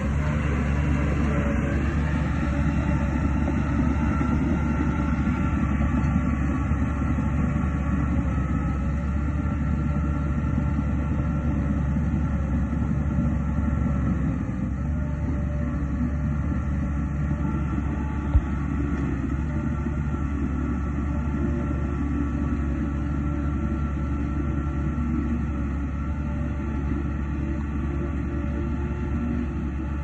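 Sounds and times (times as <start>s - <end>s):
heavy machinery diesel engine: 0.0s - 30.0s.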